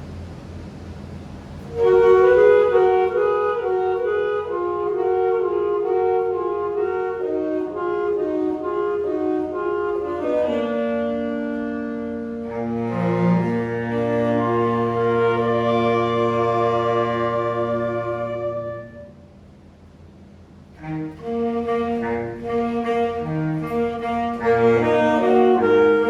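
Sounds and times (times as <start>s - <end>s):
woodwind ensemble playing: 1.7s - 19.4s, 20.8s - 26.0s.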